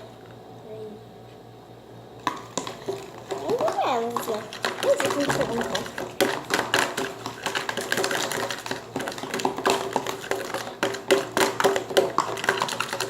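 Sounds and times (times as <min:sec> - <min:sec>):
slime being stirred: 0:02.2 - 0:13.0
utensil clicking and tapping: 0:02.2 - 0:13.0.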